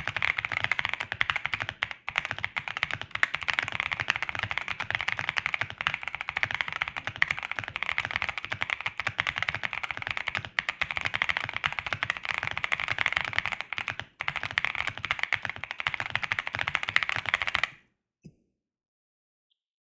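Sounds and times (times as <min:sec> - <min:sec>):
fast typing on mechanical keyboard: 0:00.0 - 0:17.8.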